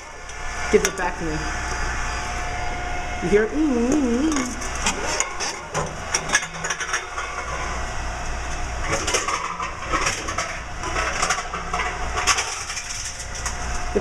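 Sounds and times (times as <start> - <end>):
vending machine humming: 0.0 - 14.0.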